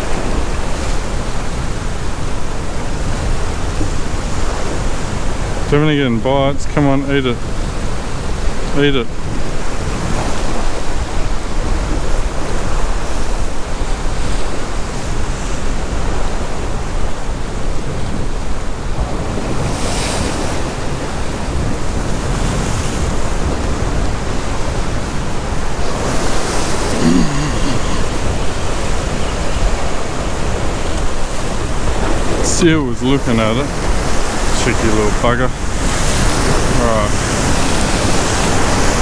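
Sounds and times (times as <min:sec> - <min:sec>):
ocean surf breaking on rocks: 0:00.0 - 0:39.0
wind on microphone: 0:00.0 - 0:39.0.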